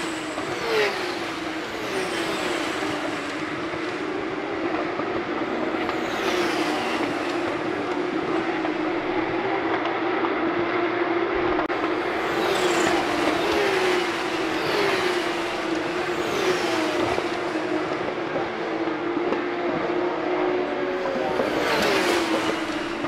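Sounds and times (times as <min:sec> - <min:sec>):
race cars passing at high revs: 0:00.0 - 0:23.0.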